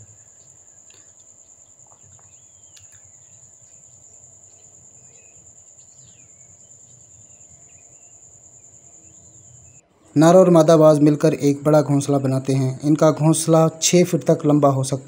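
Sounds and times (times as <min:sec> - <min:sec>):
faint bird calls: 0:00.0 - 0:15.0
insect trill: 0:00.0 - 0:15.0.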